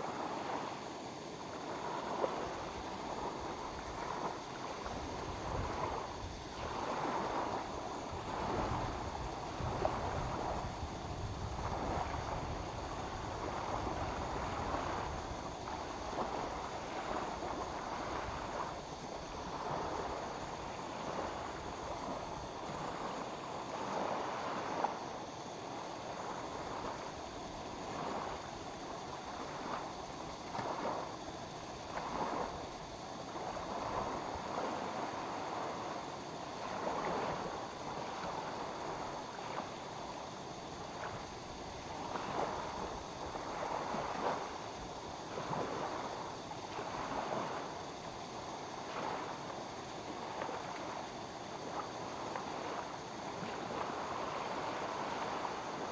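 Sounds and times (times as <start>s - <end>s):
lake waves lapping at shore: 0.0s - 55.9s.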